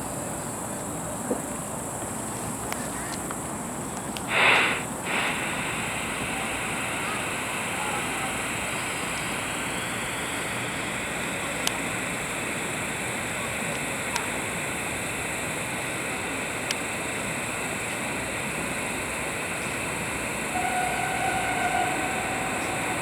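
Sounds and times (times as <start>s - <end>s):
steady hiss: 1.5s - 23.0s.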